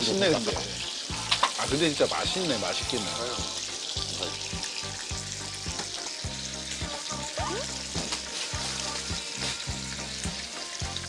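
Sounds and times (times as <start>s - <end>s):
beef sizzling on a grill pan: 0.0s - 11.0s
soft background music with bass: 0.0s - 11.0s.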